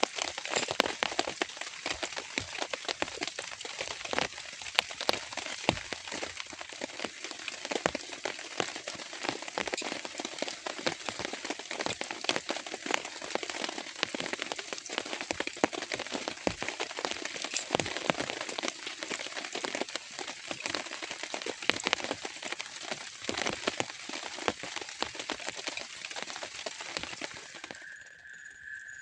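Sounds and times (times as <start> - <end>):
rain drops pattering: 0.0 - 28.0.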